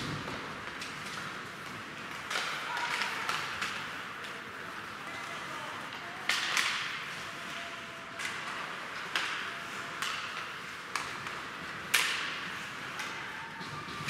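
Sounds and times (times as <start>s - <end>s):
hockey sticks clacking on puck: 0.0s - 14.0s.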